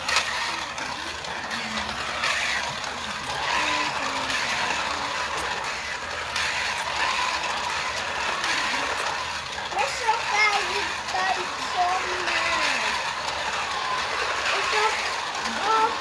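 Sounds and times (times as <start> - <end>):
cars rattling along plastic track: 0.0 - 16.0
slot car electric motors whirring: 0.0 - 16.0.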